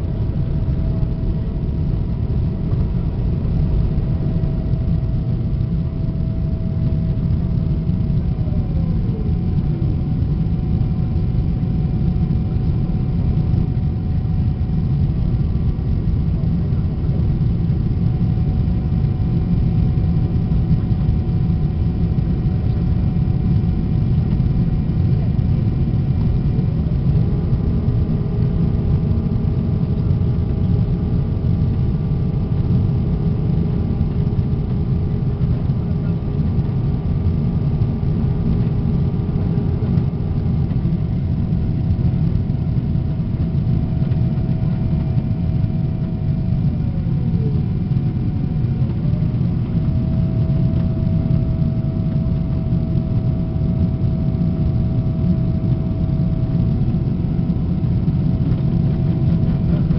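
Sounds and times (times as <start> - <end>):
airplane cabin engine roar: 0.0 - 59.9
faint steady whining tones: 0.0 - 59.9.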